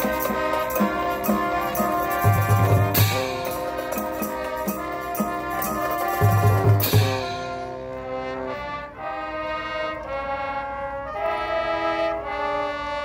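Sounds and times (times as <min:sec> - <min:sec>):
brass chords: 0:00.0 - 0:13.0.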